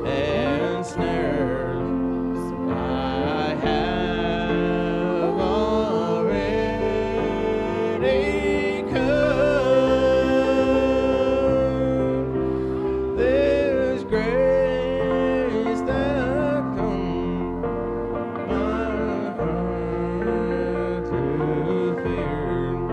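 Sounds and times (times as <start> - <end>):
instrumental accompaniment: 0.0 - 22.9
person singing slow melody: 0.0 - 22.9.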